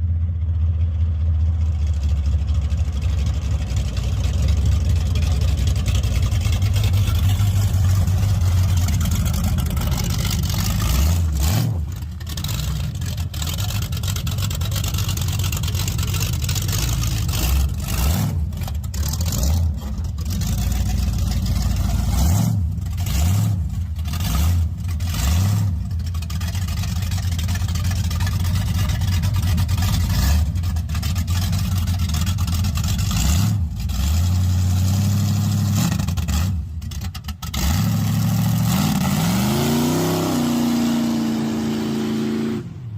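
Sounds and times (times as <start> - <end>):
car engine revving: 1.7 - 42.9.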